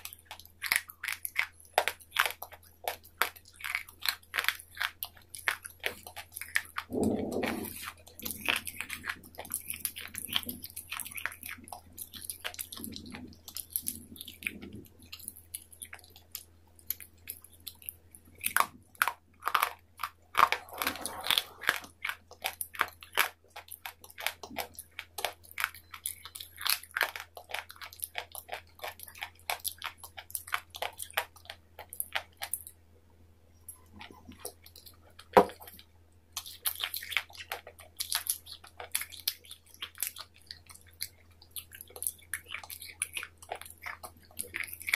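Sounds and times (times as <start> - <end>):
chewing crisp food: 0.0 - 32.8, 33.5 - 44.9.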